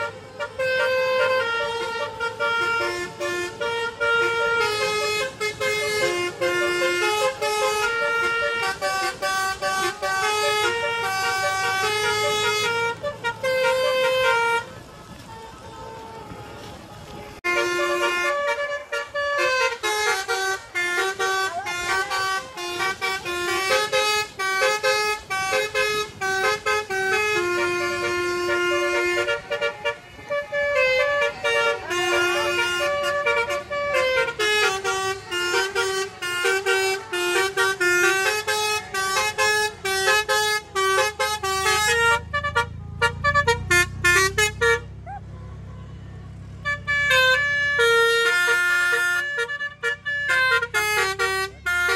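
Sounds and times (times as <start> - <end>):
musical air horn tune: 0.0 - 16.3, 17.4 - 44.9, 46.6 - 51.9.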